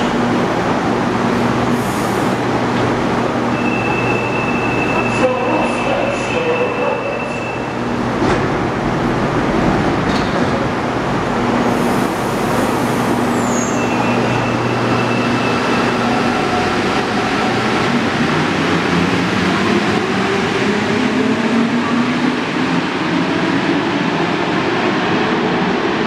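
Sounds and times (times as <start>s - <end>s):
train humming: 0.0s - 26.0s.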